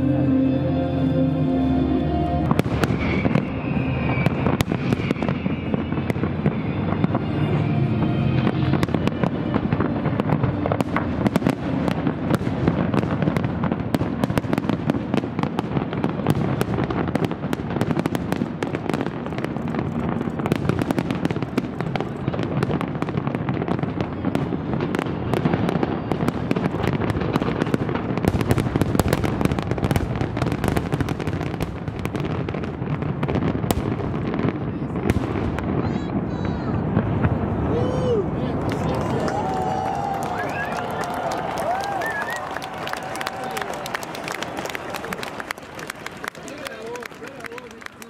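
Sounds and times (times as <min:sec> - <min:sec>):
fireworks bursts and crackling: 0:02.4 - 0:48.0.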